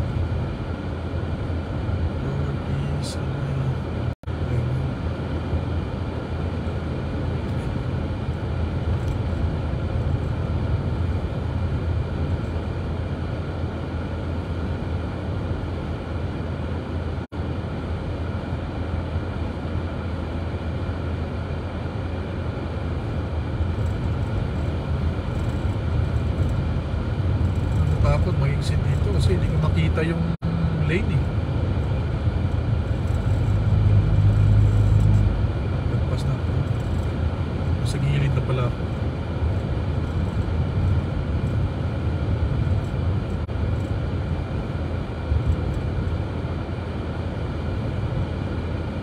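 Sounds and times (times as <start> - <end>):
car cabin road rumble: 0.0 - 49.0.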